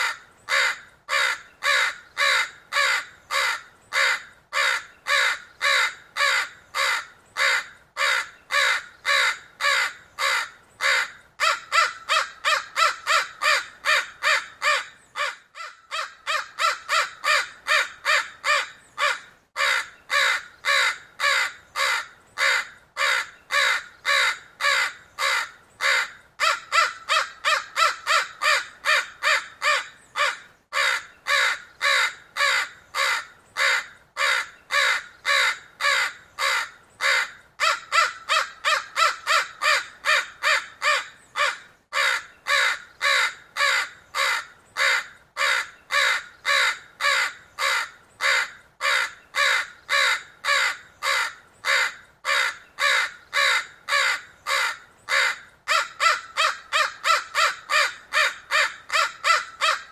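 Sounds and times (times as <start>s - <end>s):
crow cawing: 0.0s - 59.9s.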